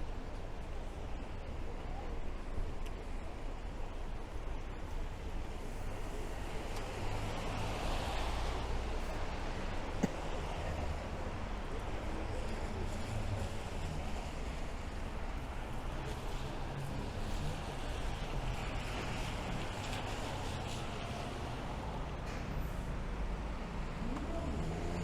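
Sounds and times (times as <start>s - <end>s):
city traffic rumble: 0.0s - 25.0s
steady rain: 0.0s - 25.0s.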